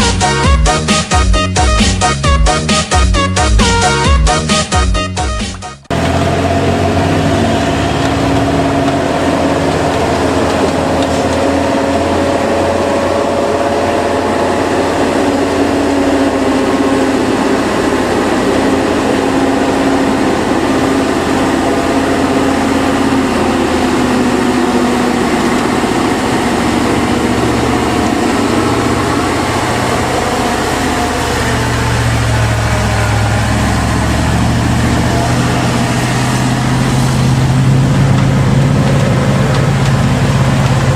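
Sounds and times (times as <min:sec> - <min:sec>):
deep hum: 0:00.0 - 0:40.9
road noise: 0:00.0 - 0:40.9
truck engine running: 0:00.0 - 0:40.9.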